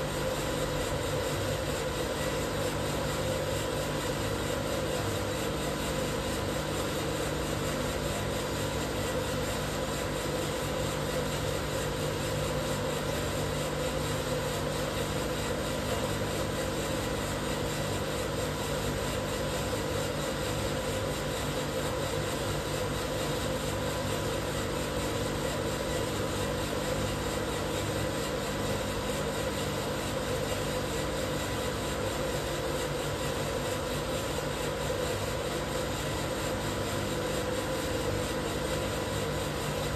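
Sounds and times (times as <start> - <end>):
coffee roaster humming: 0.0 - 39.9.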